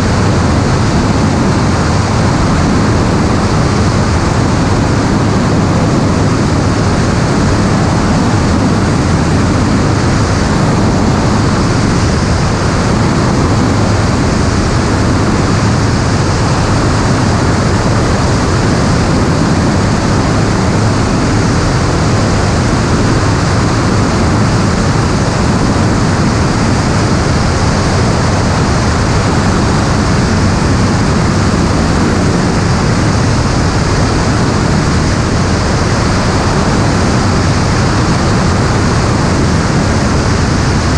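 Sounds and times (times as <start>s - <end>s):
aircraft roar in flight: 0.0s - 40.9s.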